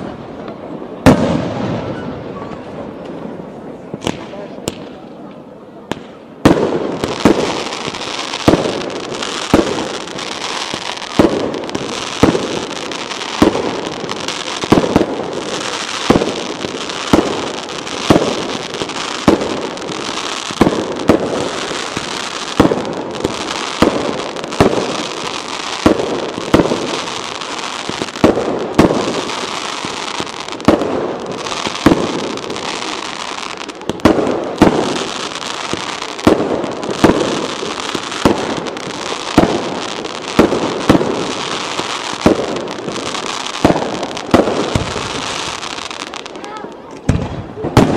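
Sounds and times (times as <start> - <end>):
fireworks bangs: 0.0 - 47.9
fireworks crackling and fizzing: 0.0 - 47.9.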